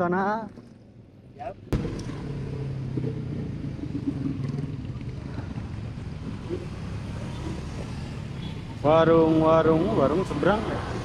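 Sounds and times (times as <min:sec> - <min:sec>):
motorbike engines and tyres rumbling: 0:00.0 - 0:11.0
engine hum: 0:00.6 - 0:11.0.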